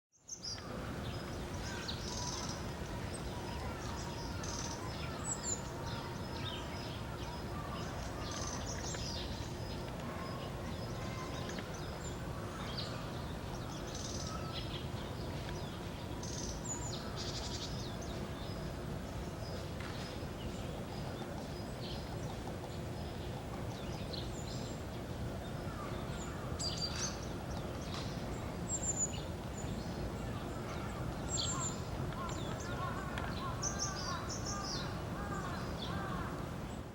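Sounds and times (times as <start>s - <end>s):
small birds chirping: 0.2s - 36.9s
distant city rumble: 0.6s - 36.9s.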